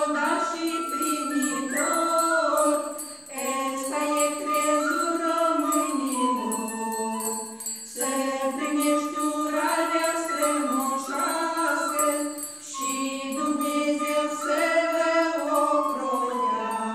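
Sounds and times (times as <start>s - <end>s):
women singing in unison: 0.0s - 16.9s.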